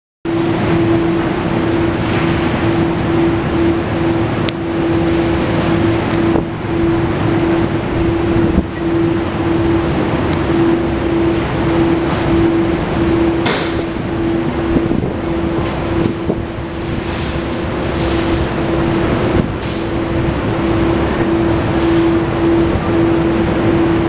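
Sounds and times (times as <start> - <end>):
steady hum: 0.3 - 24.0.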